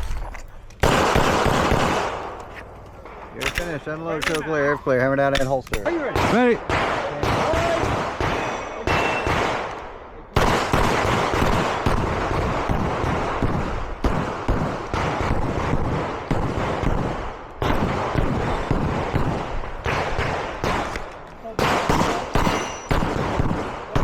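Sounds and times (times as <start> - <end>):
pistol shots: 0.8 - 2.4, 5.3 - 24.0.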